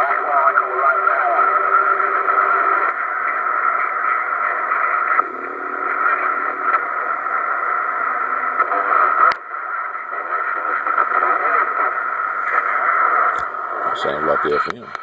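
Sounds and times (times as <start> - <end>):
radio static and garbled signals: 0.0 - 15.0.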